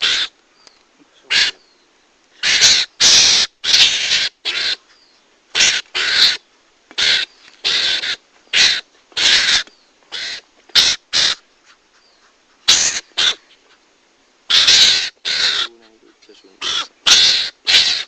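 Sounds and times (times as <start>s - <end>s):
harsh rasping mongoose calls: 0.0s - 0.4s, 1.0s - 18.0s.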